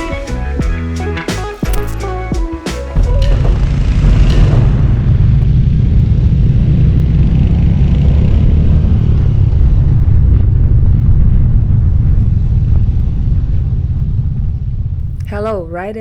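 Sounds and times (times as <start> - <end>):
motorcycle engine running: 1.6 - 14.8.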